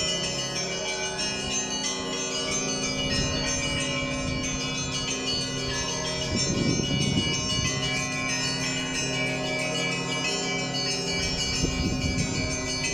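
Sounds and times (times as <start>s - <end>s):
church bells ringing: 0.0s - 12.9s
heavy low bell strokes: 0.0s - 12.9s.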